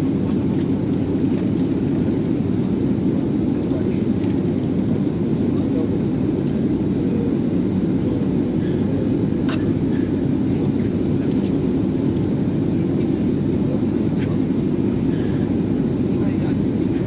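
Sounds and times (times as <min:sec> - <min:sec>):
jet engine and airflow rumble: 0:00.0 - 0:17.0.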